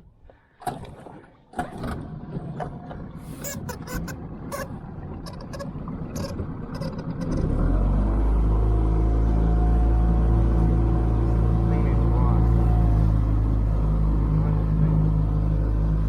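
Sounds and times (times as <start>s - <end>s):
outboard motor running: 0.6s - 16.0s.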